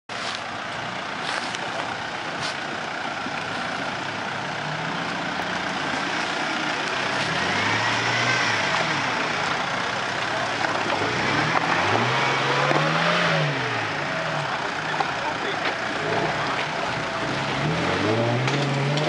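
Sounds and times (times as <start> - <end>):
tyres churning and splashing mud: 0.4 - 19.0
vehicle engine revving: 0.8 - 19.0.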